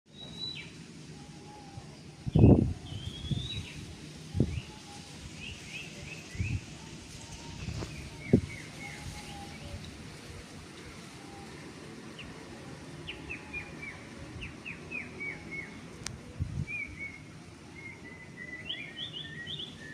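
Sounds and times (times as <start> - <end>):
small birds chirping: 0.1 - 10.0, 10.8 - 19.9.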